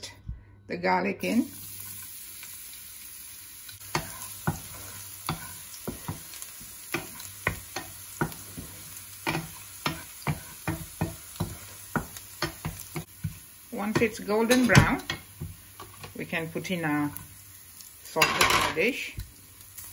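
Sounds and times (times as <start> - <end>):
garlic sizzling in hot oil: 1.2 - 19.9.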